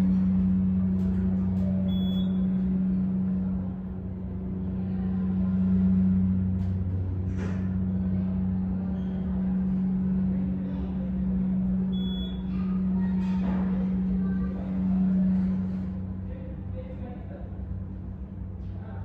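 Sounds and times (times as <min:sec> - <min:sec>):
elevator pump humming: 0:00.0 - 0:19.0.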